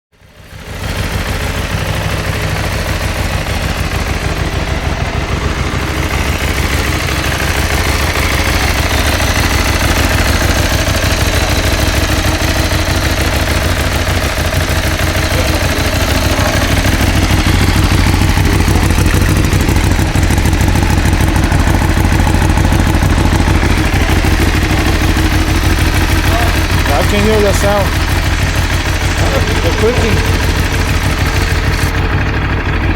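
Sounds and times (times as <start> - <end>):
motorcycle engine idling: 0.2 - 32.9
engine clicking: 0.3 - 32.9.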